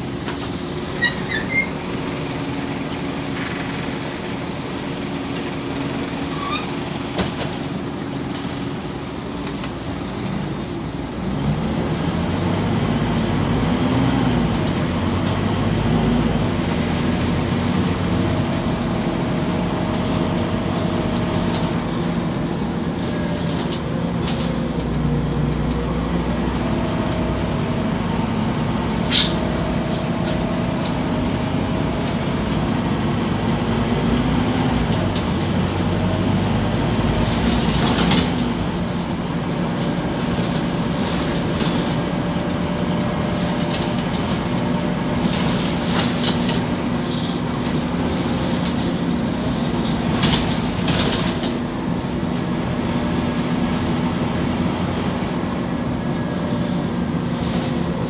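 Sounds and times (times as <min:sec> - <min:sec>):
bus engine drone: 0:00.0 - 0:58.0
road noise: 0:00.0 - 0:58.0.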